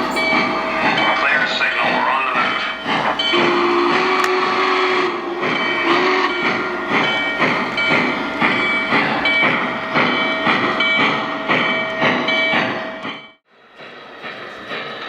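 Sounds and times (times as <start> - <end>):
model steam locomotive chuffing: 0.0 - 15.0
model train on track: 0.0 - 15.0.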